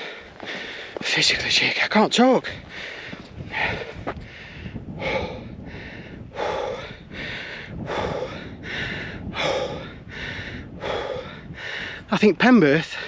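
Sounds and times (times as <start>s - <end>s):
man panting hard: 0.0s - 1.0s, 2.5s - 13.0s.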